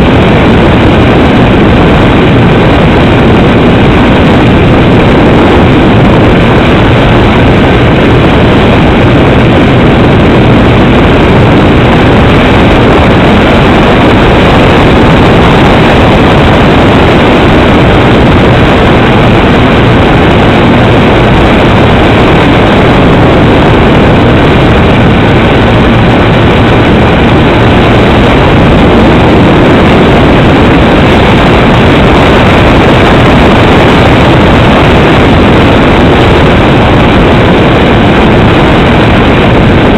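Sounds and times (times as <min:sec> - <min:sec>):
twin propeller plane engines droning: 0:00.0 - 0:39.9.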